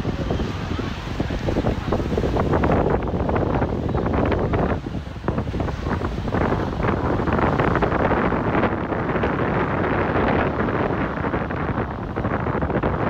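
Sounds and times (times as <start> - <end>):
sea surf washing on beach: 0.0 - 13.0
wind buffeting microphone: 0.0 - 13.0.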